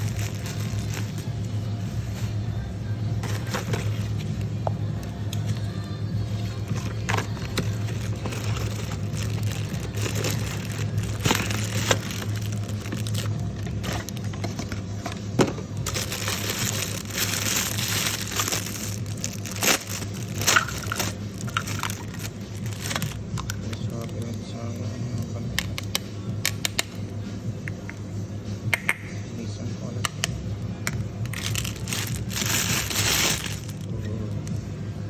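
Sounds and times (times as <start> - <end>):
objects crinkling and clicking: 0.0 - 1.5, 3.2 - 5.7, 6.4 - 27.0, 30.1 - 34.6
steady low hum: 0.0 - 35.0.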